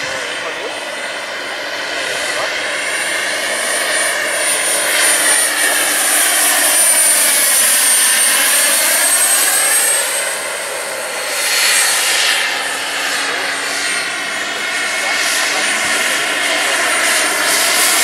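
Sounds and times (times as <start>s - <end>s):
model helicopter turbine whine: 0.0s - 18.0s.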